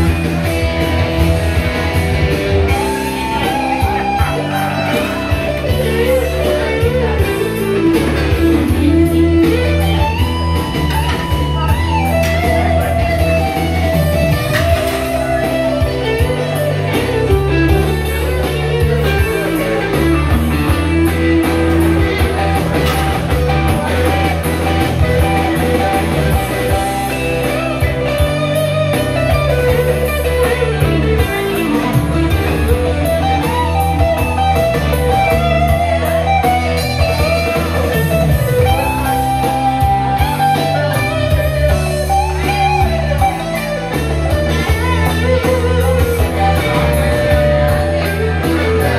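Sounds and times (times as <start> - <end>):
bass line of low notes: 0.0 - 48.9
electric guitar melody: 0.0 - 48.9.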